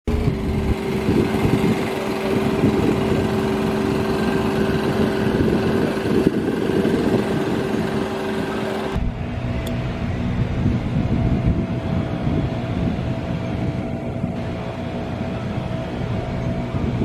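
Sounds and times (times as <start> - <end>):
machine hum: 0.1 - 17.0.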